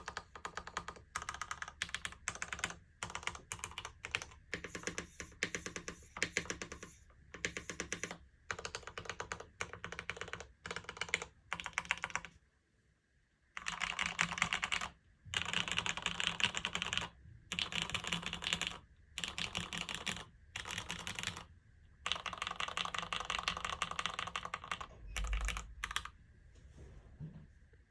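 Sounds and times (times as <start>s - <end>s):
mechanical keyboard typing: 0.0s - 12.3s, 13.6s - 26.2s.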